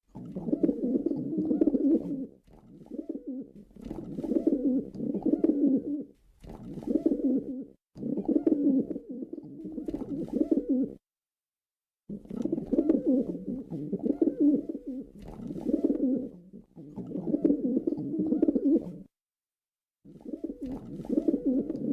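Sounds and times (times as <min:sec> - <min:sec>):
pigeon cooing: 0:00.1 - 0:11.0, 0:12.1 - 0:19.1, 0:20.1 - 0:21.9.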